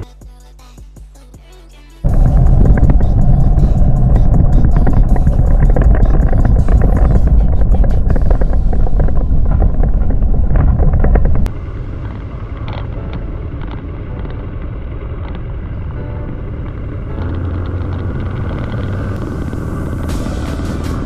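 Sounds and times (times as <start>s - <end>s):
motorcycle engine: 2.1s - 21.0s
wind rushing on microphone: 2.1s - 21.0s.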